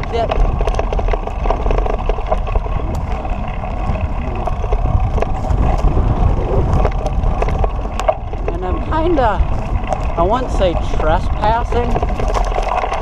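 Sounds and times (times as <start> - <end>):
bicycle clicks and rattles: 0.0 - 13.0
wind buffeting microphone: 0.0 - 13.0.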